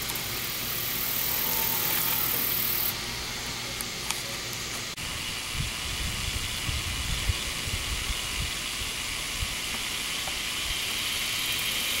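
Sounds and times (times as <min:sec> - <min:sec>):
insect chorus hissing: 0:00.0 - 0:03.6, 0:05.0 - 0:12.0.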